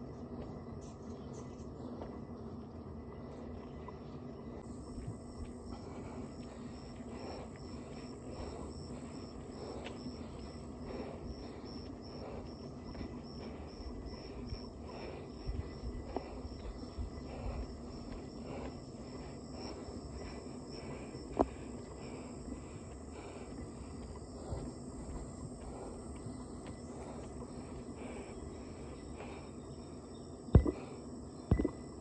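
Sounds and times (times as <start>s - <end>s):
insect chirping: 0.0s - 32.0s
footsteps on dirt road: 3.4s - 29.4s.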